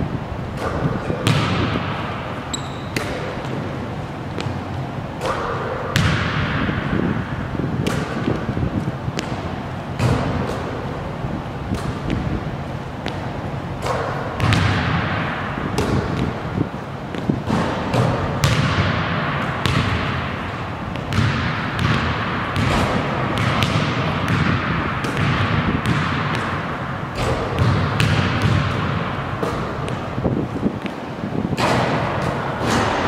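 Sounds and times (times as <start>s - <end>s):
basketball bouncing on wooden floor: 0.6s - 7.2s, 7.8s - 10.8s, 13.0s - 33.0s.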